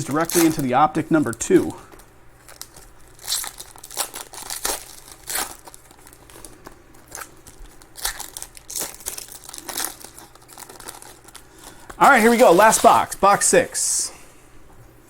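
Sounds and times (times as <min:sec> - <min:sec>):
plastic packaging crinkling and tearing: 0:00.0 - 0:13.8.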